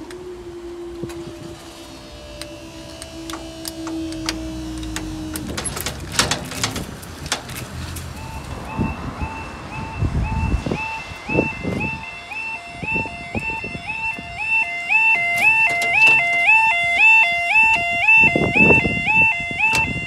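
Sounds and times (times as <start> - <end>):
level crossing alarm warbling: 0.0 - 6.8, 8.1 - 20.0.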